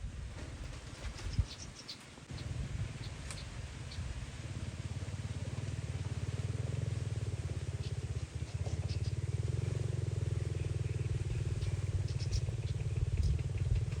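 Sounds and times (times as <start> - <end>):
small birds chirping: 0.6 - 4.3, 5.7 - 14.0
low pulsing rumble: 2.3 - 14.0.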